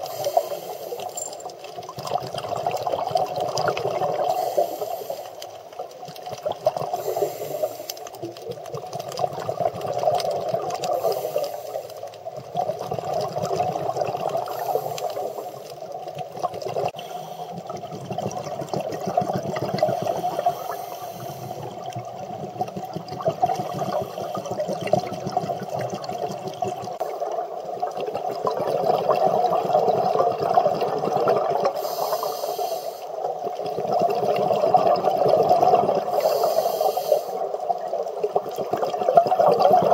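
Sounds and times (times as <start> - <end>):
bubbling exhaled air: 0.0 - 39.9
crackling underwater rush: 0.0 - 39.9.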